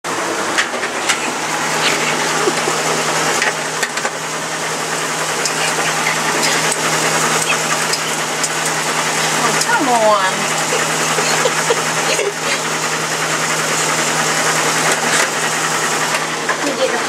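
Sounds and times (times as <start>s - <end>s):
machine humming and whirring: 0.1s - 17.0s.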